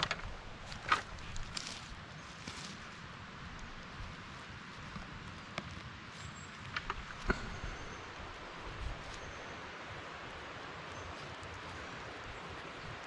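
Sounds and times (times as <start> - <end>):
steady hiss with low rumble: 0.0 - 13.0.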